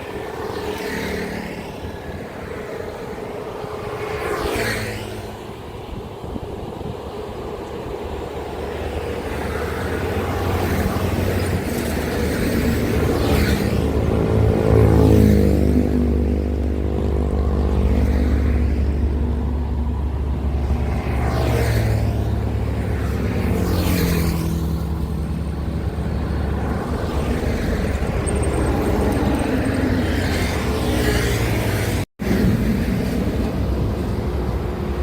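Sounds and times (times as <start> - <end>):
diesel truck passing: 0.0 - 35.0.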